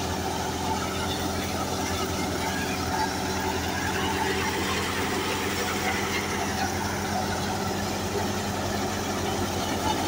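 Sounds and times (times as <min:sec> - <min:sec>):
thresher machine humming: 0:00.0 - 0:10.0.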